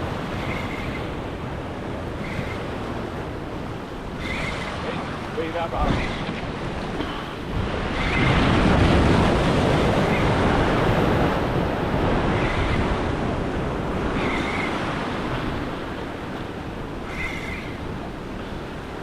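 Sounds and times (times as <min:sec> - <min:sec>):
ocean surf breaking on rocks: 0:00.0 - 0:19.0.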